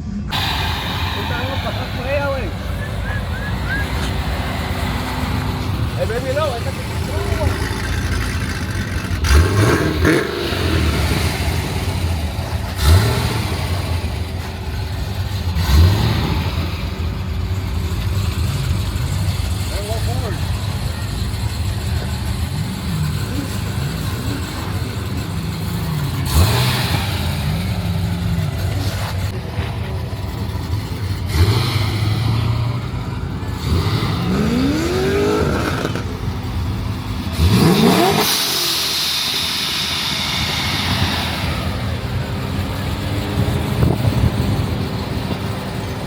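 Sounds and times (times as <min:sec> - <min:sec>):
car engines idling and revving: 0:00.0 - 0:46.0
hissing rush: 0:00.0 - 0:46.0.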